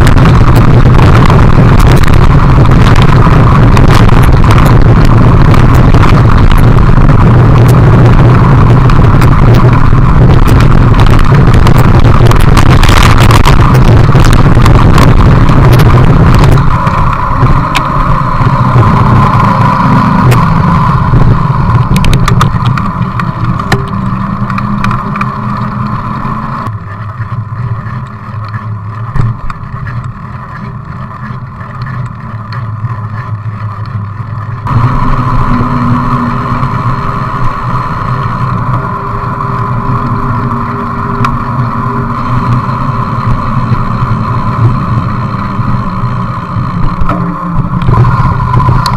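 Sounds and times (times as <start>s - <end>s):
bicycle tyres rumbling: 0.0s - 48.9s
tyres crackling over gravel: 0.0s - 48.9s
wind rushing over microphone: 0.0s - 48.9s.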